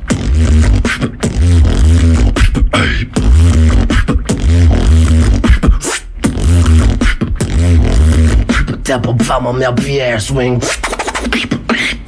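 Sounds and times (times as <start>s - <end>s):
lip roll bass buzzing: 0.0s - 9.7s
beatbox percussive clicks: 0.0s - 12.0s.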